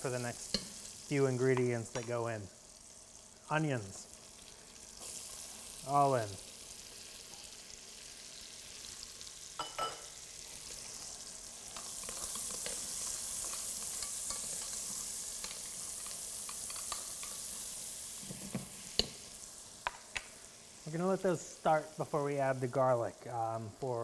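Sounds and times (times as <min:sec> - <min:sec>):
onions sizzling in fat: 0:00.0 - 0:24.0.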